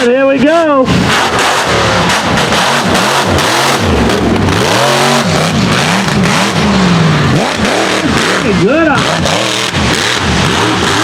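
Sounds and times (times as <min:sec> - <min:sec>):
steady rushing noise: 0:00.0 - 0:11.0
truck engine revving hard: 0:00.0 - 0:11.0.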